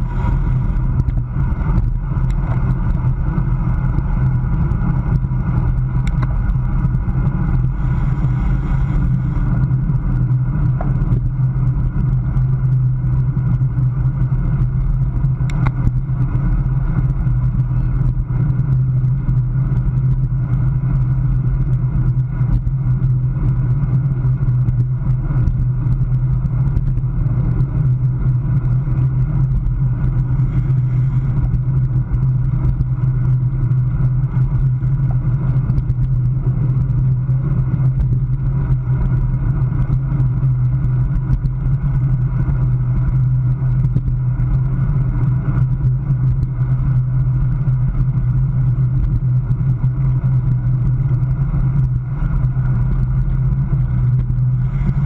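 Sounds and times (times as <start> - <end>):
bicycle tyre road noise: 0.0 - 55.0
wind buffeting microphone: 0.0 - 55.0.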